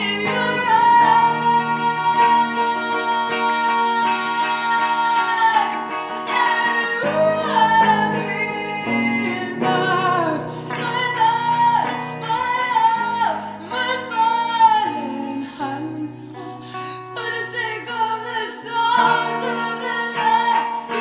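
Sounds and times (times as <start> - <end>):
woman singing with vibrato: 0.0 - 21.0.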